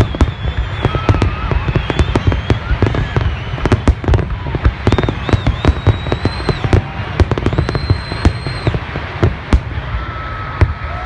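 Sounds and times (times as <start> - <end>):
high steady whistle: 0.0 - 8.9
fireworks bangs and crackling pops: 0.0 - 11.0.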